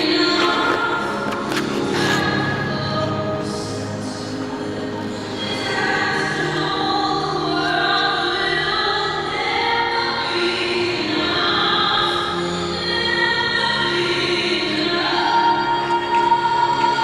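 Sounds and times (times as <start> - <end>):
choral music over sound system: 0.0 - 17.0.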